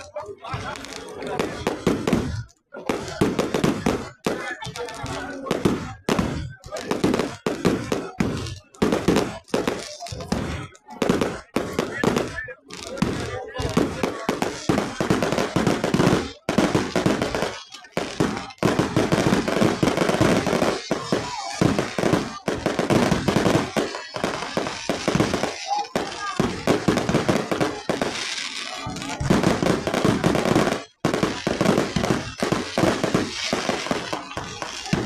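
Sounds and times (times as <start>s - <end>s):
firecrackers crackling: 0.0s - 35.0s
voices: 0.0s - 35.0s.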